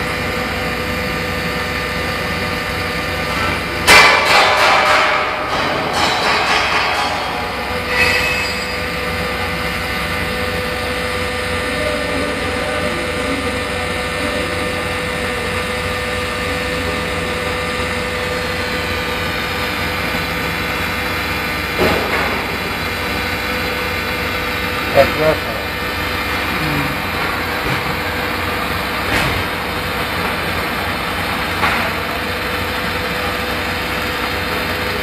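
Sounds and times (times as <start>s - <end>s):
welding machine humming: 0.0s - 35.0s.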